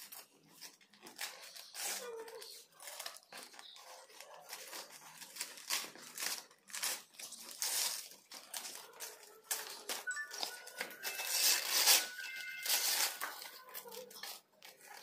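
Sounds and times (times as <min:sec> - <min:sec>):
wrapping paper tearing and crumpling: 0:00.0 - 0:15.0.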